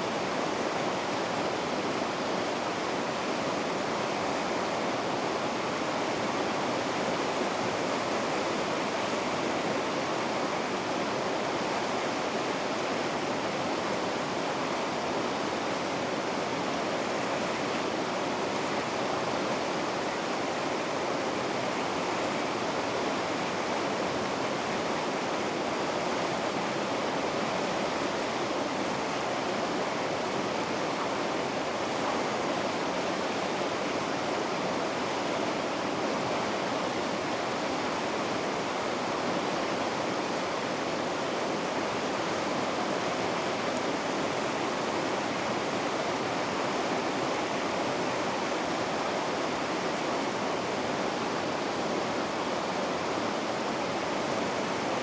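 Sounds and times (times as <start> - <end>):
river rapids roaring: 0.0 - 55.0.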